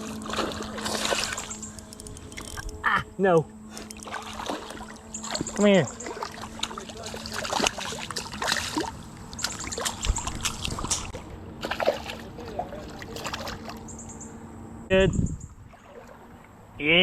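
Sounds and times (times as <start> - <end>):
water splashing and sloshing: 0.0 - 2.7, 3.7 - 14.1, 15.5 - 16.8.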